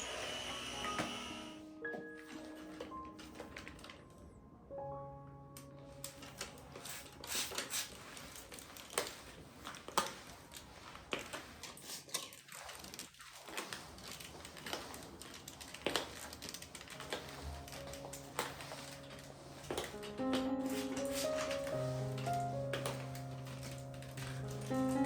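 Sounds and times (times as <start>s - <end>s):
rustling and crinkling: 1.8s - 4.3s, 6.0s - 25.0s.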